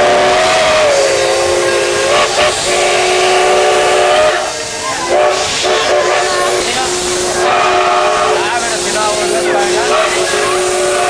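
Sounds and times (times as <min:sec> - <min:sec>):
steam hissing: 0:00.0 - 0:11.0
steam locomotive whistle: 0:00.0 - 0:11.0.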